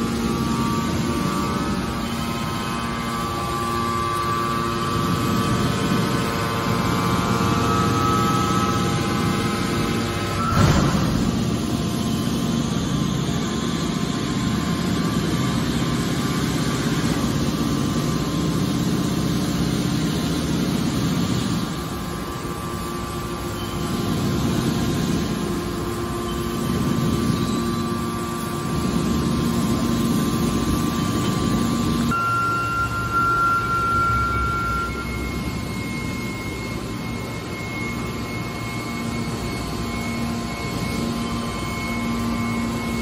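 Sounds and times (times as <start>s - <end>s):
hydraulic baler droning: 0.0s - 43.0s.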